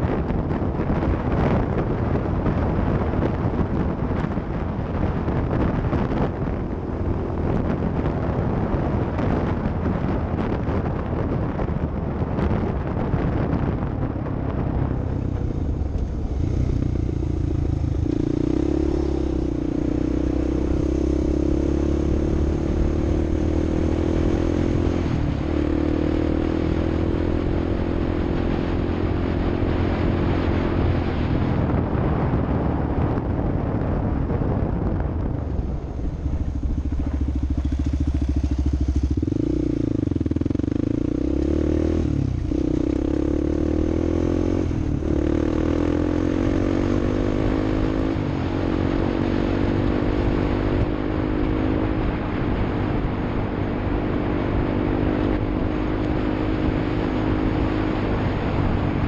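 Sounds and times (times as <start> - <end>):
vehicle engine: 0.0 - 59.0
wind and rumble noise: 0.0 - 59.0.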